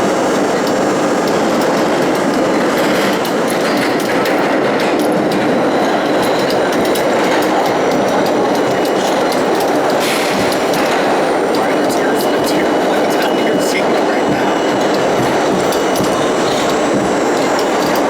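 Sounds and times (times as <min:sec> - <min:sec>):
subway train rumbling: 0:00.0 - 0:18.0
wheels clicking over rail joints: 0:00.0 - 0:18.0.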